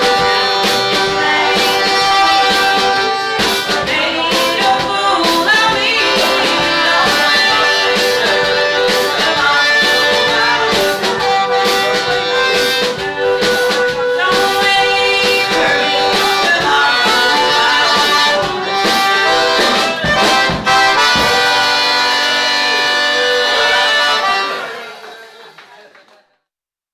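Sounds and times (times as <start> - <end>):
steady drum beat: 0.0 - 24.8
accordion chords: 0.0 - 25.3.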